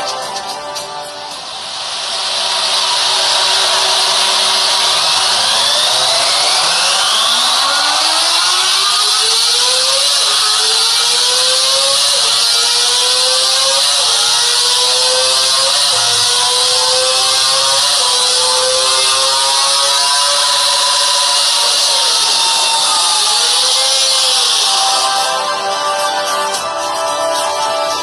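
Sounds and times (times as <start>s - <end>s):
motorcycle engine at full throttle: 2.1s - 25.3s.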